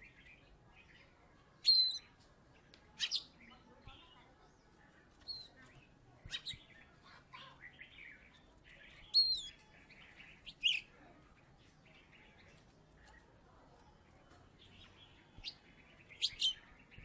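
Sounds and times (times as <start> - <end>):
magpie-robin singing: 0.0 - 2.2, 2.9 - 17.0.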